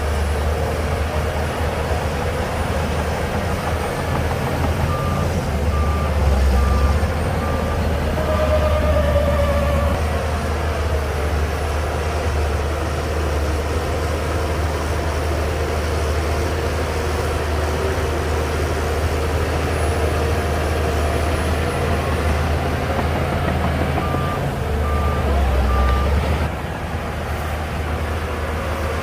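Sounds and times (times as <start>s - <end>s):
bulldozer diesel engine droning: 0.0s - 29.0s.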